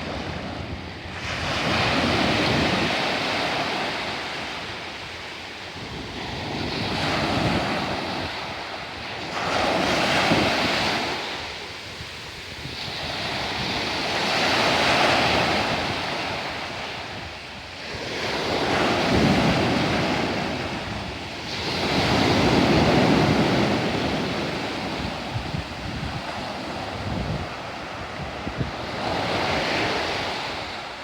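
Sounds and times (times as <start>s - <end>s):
sea waves breaking on shore: 0.0s - 31.0s
wind buffeting microphone: 0.0s - 31.0s.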